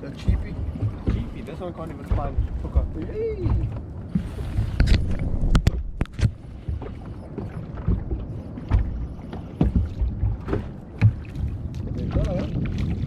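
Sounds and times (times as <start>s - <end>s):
knocks and clacks on boat: 0.0s - 13.0s
wind and water rumble: 0.0s - 13.0s.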